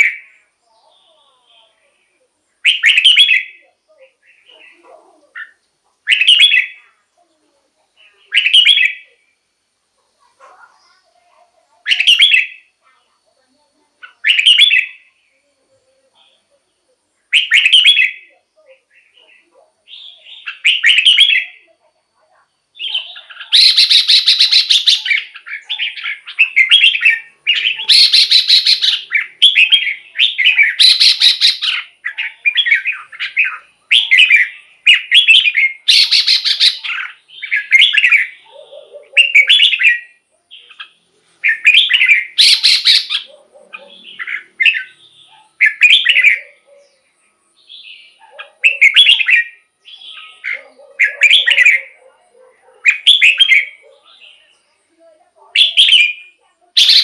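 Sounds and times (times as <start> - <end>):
bird singing warbling phrases: 0.0 - 57.0.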